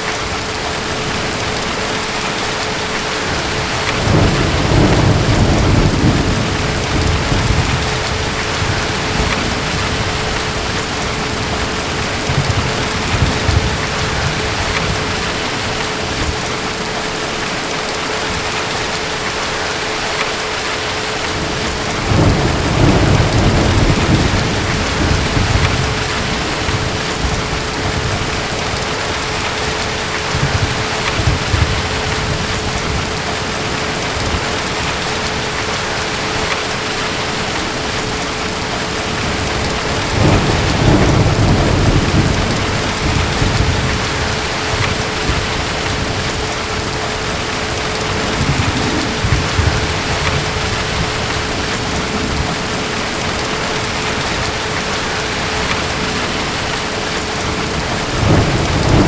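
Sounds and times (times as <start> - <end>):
heavy rain: 0.0 - 59.0
distant thunder rumbling: 0.3 - 17.7, 21.2 - 59.0.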